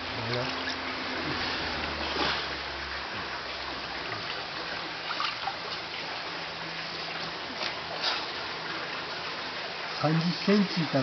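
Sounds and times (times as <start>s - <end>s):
small water splashes: 0.0s - 11.0s
water running and trickling: 0.0s - 11.0s.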